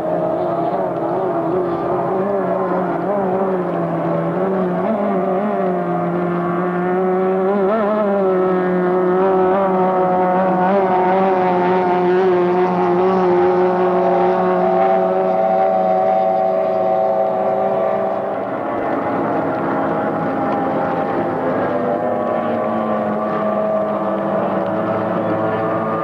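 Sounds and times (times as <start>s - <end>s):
racing outboard engines: 0.0s - 26.0s.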